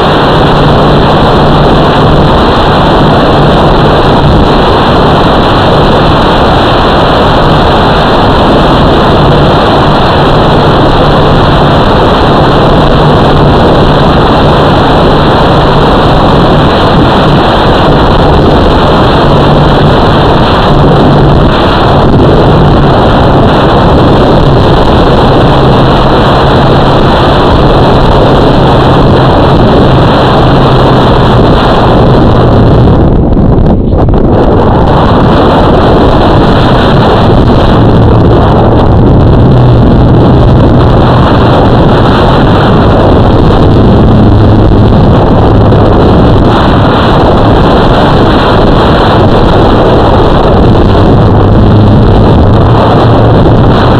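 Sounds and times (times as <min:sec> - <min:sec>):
drone motor humming: 0:00.0 - 0:53.9
wind noise: 0:00.0 - 0:53.9.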